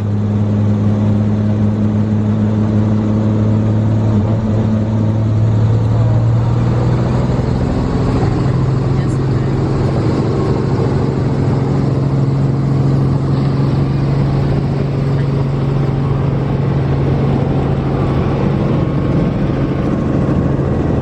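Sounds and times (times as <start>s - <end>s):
helicopter drone from cabin: 0.0s - 21.0s.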